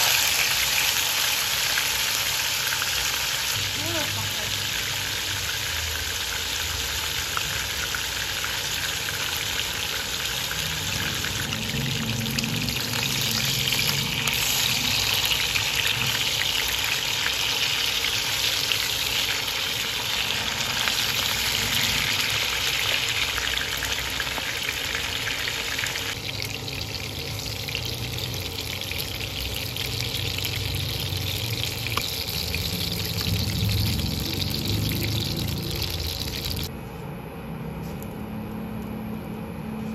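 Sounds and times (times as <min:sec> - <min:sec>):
chicken sizzling in oil: 0:00.0 - 0:36.7.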